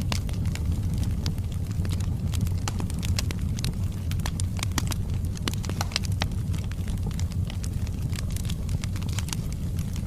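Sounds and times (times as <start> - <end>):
logs crackling and popping: 0.0 - 10.0
low rumble of flames: 0.0 - 10.0.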